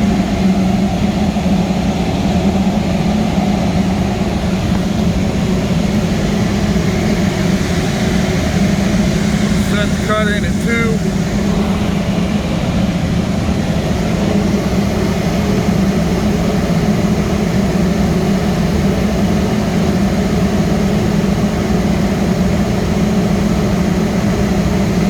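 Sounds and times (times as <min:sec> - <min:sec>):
boiler burners and blowers rumbling: 0:00.0 - 0:25.0.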